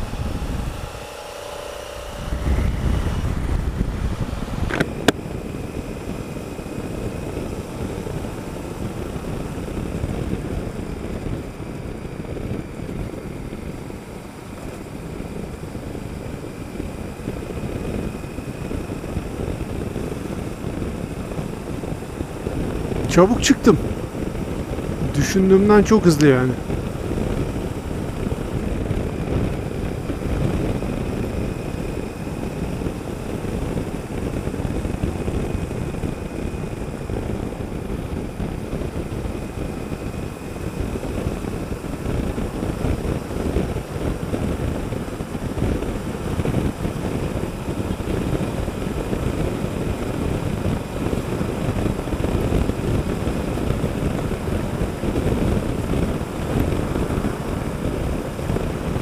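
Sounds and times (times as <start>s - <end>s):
low rumble of riding noise: 0.0s - 59.0s
motorcycle engine running: 0.0s - 59.0s.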